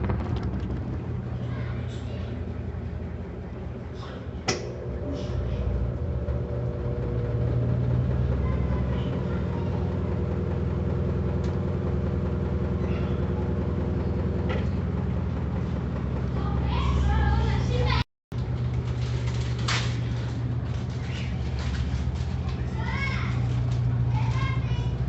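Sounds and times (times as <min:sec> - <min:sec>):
washing machine motor hum: 0:00.0 - 0:25.0.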